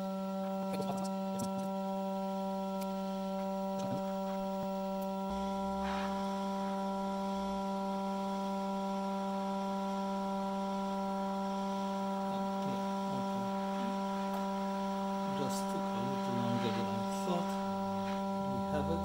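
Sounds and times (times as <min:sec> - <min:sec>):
hot air station hum: 0:00.0 - 0:19.0.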